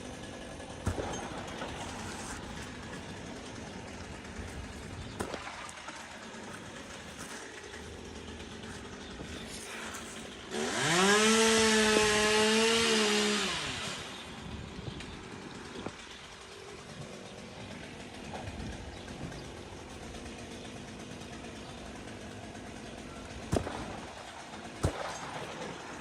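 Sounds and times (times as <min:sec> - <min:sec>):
chainsaw engine revving: 0:00.0 - 0:26.0.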